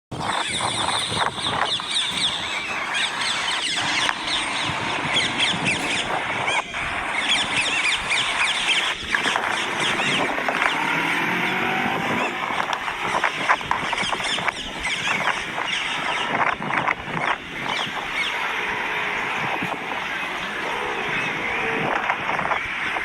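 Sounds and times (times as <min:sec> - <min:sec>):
parrots screeching and chattering: 0:00.1 - 0:23.0.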